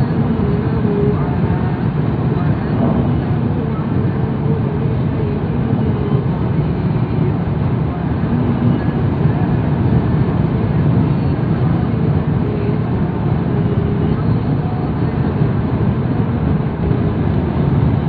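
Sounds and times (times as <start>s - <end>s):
road and wind noise in car: 0.0s - 18.0s.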